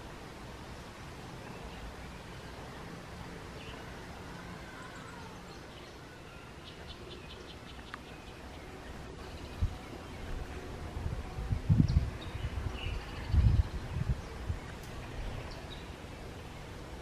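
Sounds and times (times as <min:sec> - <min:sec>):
faint background noise: 0:00.0 - 0:17.0
distant bird calls: 0:00.8 - 0:17.0.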